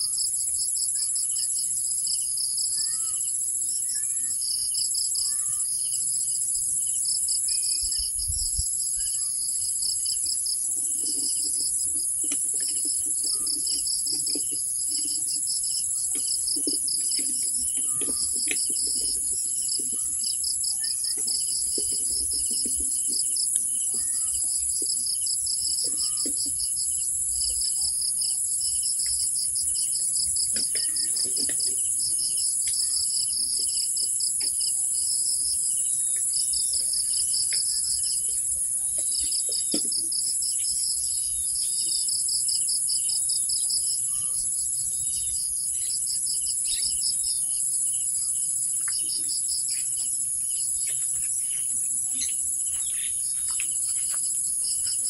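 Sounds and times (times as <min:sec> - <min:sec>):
pulsing insect trill: 0:00.0 - 0:55.0.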